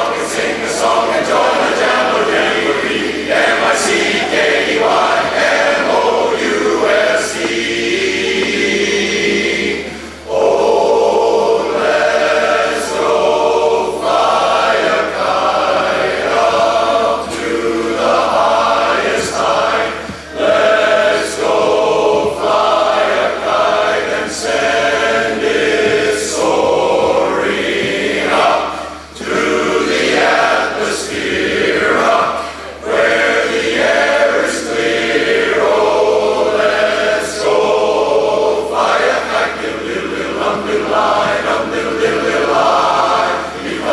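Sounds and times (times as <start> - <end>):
men's chorus singing a cappella: 0.0 - 43.9.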